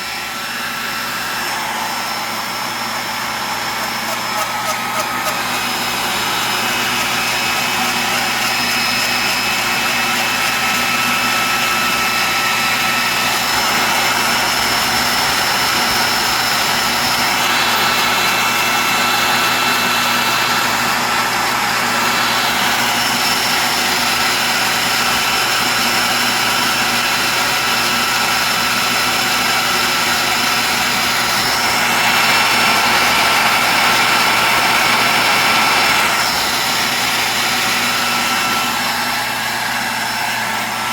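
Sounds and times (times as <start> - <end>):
grinder whining and grinding metal: 0.0 - 40.9.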